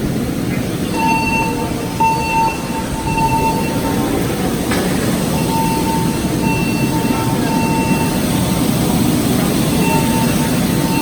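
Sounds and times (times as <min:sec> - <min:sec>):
fire alarm electronic tone: 0:00.9 - 0:04.1, 0:05.1 - 0:11.0.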